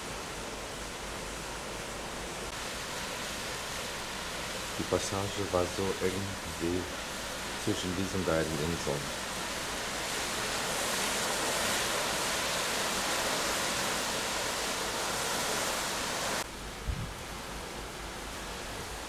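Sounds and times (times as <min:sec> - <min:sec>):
wind and water rushing: 0:00.0 - 0:19.0.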